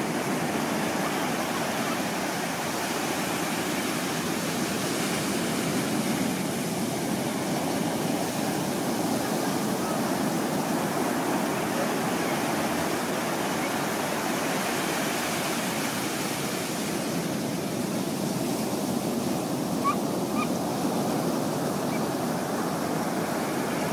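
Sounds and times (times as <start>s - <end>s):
ocean waves breaking: 0.0s - 23.9s.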